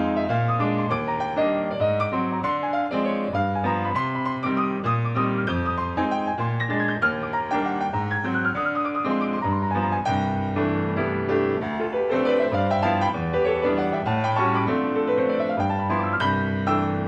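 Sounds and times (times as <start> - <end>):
piano arpeggios: 0.0 - 17.0.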